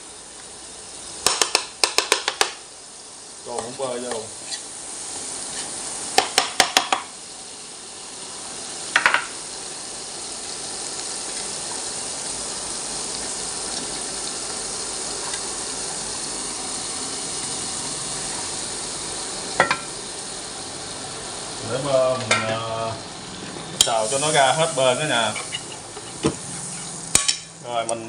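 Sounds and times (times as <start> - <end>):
butter sizzling in a frying pan: 0.0 - 28.0.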